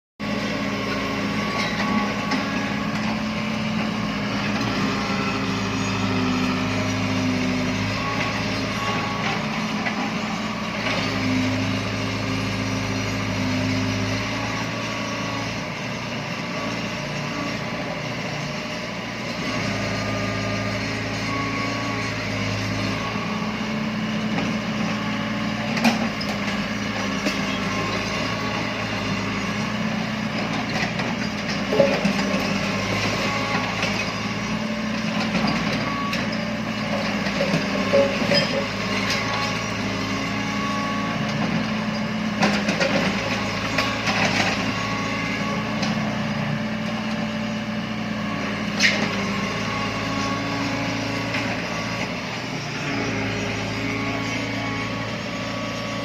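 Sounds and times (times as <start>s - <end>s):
diesel machinery engine: 0.2s - 56.0s.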